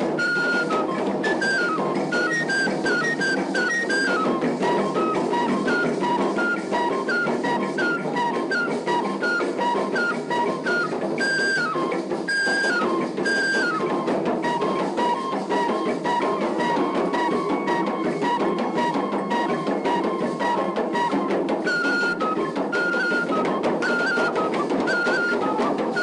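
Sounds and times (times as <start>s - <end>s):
drum ensemble playing fast rhythm: 0.0s - 26.0s.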